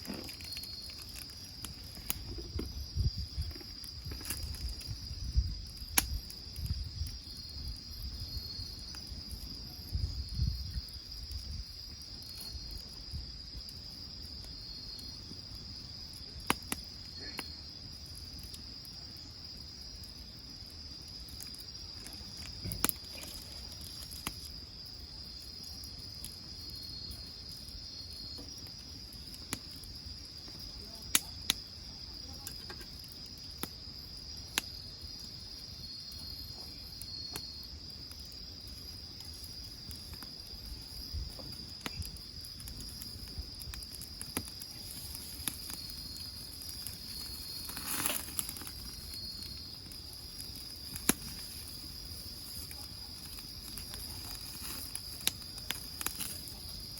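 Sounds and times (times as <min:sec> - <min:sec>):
insect chirping in pulses: 0:00.0 - 0:56.9
insects trilling: 0:00.0 - 0:56.9
wood fire popping: 0:00.0 - 0:56.9.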